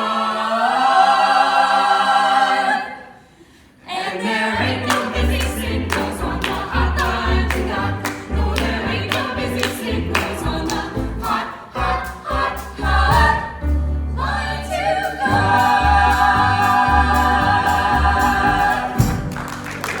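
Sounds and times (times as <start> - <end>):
choir singing a cappella: 0.0 - 19.4.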